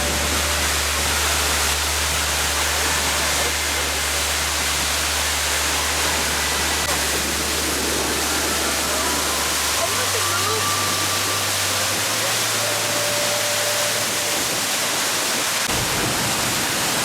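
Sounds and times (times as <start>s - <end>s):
low hum: 0.0s - 14.8s
waterfall rushing: 0.0s - 17.0s.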